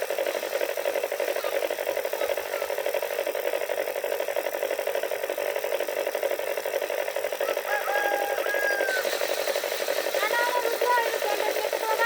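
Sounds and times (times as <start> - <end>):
threshing machine running: 0.0 - 12.0.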